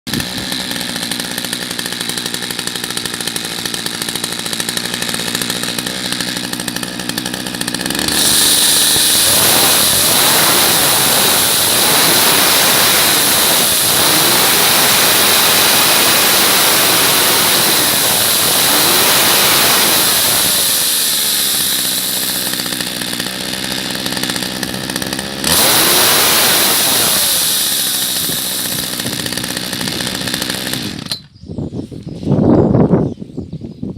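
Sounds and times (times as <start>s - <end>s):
chainsaw idling and revving: 0.1s - 31.3s.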